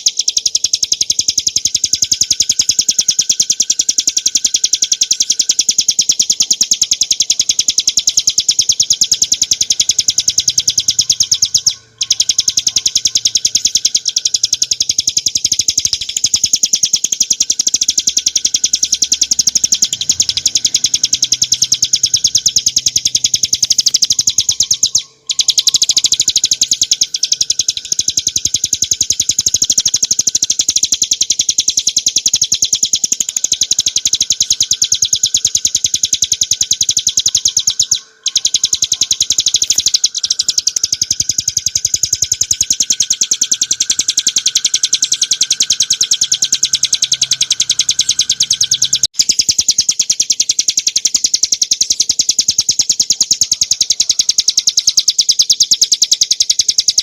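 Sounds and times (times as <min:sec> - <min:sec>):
bird singing fast trill: 0:00.0 - 0:57.0.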